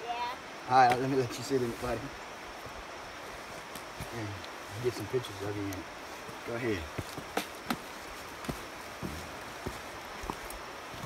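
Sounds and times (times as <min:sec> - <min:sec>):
river running: 0:00.0 - 0:11.0
footsteps on dirt trail: 0:01.7 - 0:11.0.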